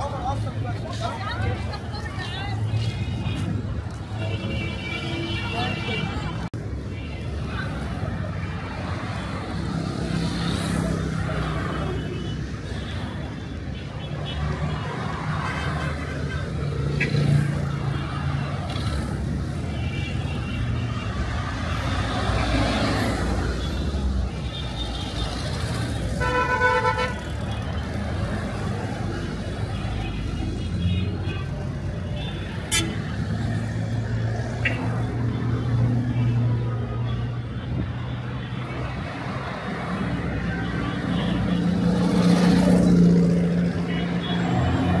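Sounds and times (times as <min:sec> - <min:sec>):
road noise: 0:00.0 - 0:45.0
vehicle engines rumbling: 0:00.0 - 0:45.0.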